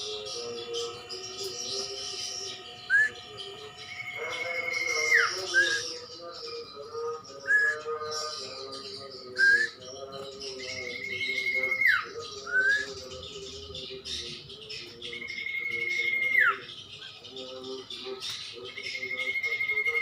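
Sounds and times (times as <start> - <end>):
songbird chirping and trilling: 0.0 - 20.0.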